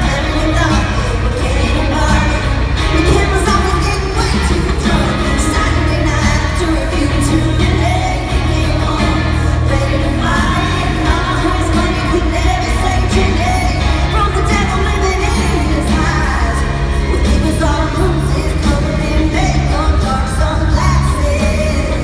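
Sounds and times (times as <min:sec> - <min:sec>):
heavy bass: 0:00.0 - 0:22.0
woman singing over full band: 0:00.0 - 0:22.0.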